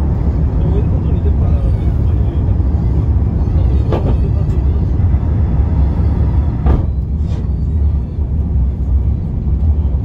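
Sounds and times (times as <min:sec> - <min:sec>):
aircraft engine rumble: 0:00.0 - 0:10.0.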